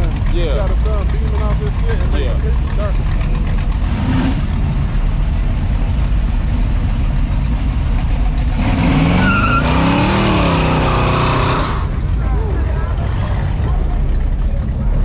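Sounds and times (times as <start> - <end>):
car engine revving: 0.0 - 15.0
car engine rumbling: 0.0 - 15.0.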